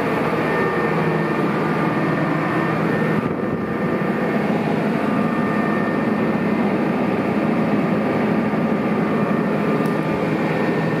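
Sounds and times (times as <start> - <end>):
high-pitched whine: 0.0 - 11.0
tractor diesel engine running: 0.0 - 11.0.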